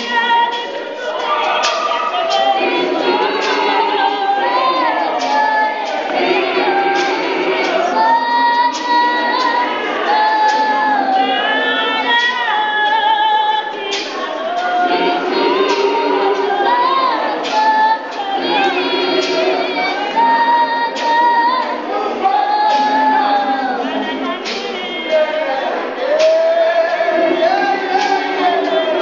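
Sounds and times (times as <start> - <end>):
women's choir singing hymn: 0.0 - 29.0
sharp knock marking beat: 1.2 - 12.4, 13.8 - 29.0.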